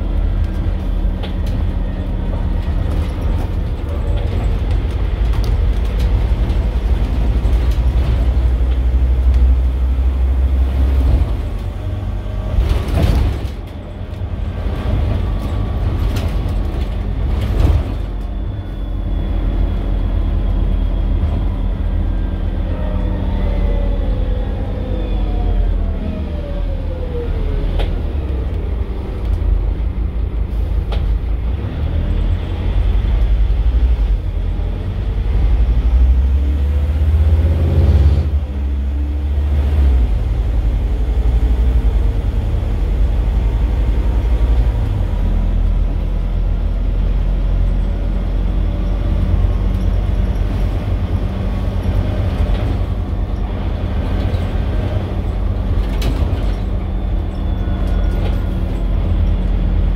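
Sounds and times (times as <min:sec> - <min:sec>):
bus diesel engine pulling hard: 0:00.0 - 0:59.9.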